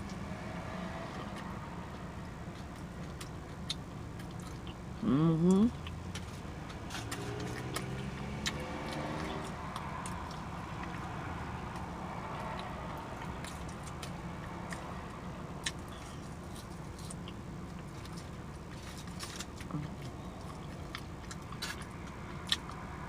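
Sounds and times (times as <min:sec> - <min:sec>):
wet chewing clicks and smacks: 0:01.2 - 0:05.0, 0:05.7 - 0:23.0.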